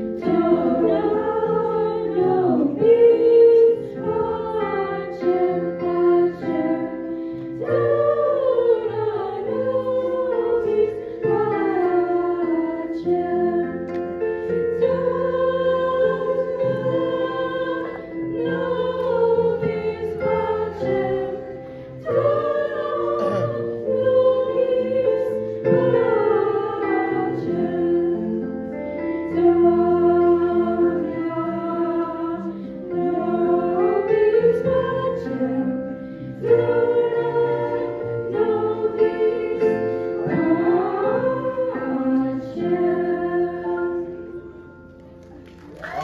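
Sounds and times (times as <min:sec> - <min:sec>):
girls singing through speakers: 0:00.0 - 0:44.8.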